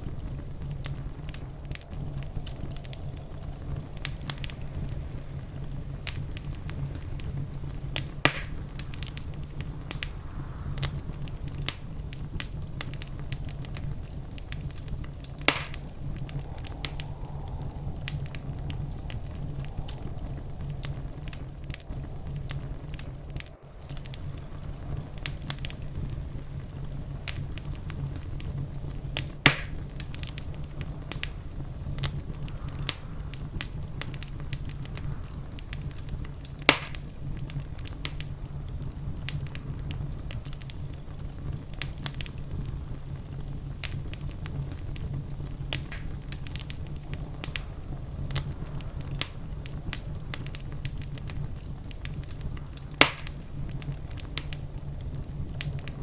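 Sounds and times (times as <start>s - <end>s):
fire crackling: 0.0s - 56.0s
loud fire pops: 0.0s - 56.0s
low rumble of fire: 0.0s - 56.0s.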